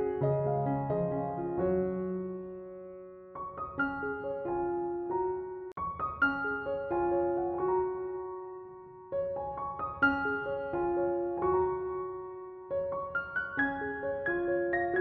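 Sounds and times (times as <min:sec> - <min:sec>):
soft piano chords and melody: 0:00.0 - 0:15.0.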